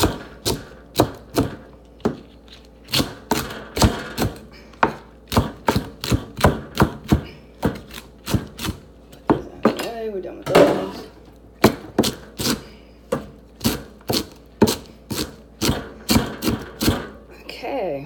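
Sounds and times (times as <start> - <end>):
knife chopping on cutting board: 0.0 - 2.3, 2.9 - 9.8, 11.6 - 17.2.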